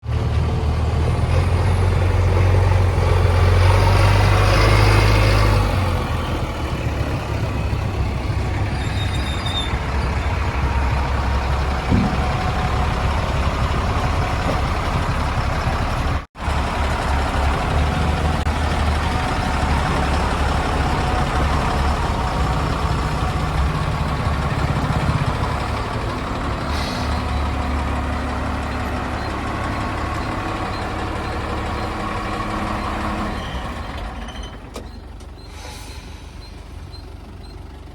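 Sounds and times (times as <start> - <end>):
diesel engine working hard: 0.0 - 37.9.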